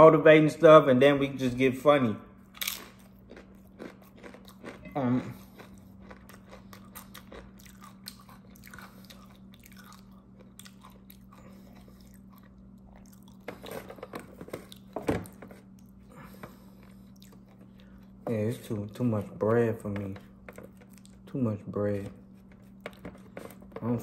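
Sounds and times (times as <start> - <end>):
faint steady hum: 0.0 - 24.0
chewing and crunching bread: 2.4 - 24.0.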